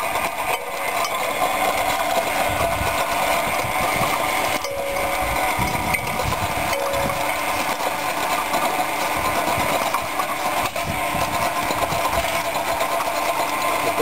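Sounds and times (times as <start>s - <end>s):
mechanical drone: 0.0s - 14.0s.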